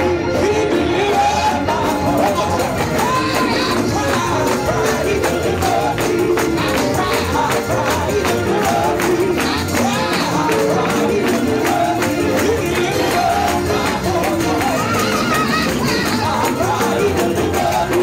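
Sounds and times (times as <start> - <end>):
gospel band playing: 0.0 - 18.0
voices singing: 0.0 - 18.0.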